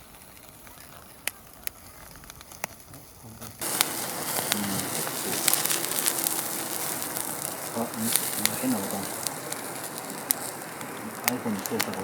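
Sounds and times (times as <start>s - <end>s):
fire crackling and popping: 0.0s - 12.0s
meat sizzling on a grill: 2.3s - 12.0s.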